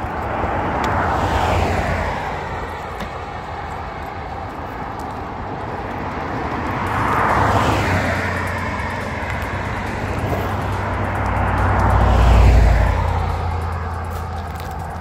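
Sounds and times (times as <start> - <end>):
car passing: 0.0 - 15.0.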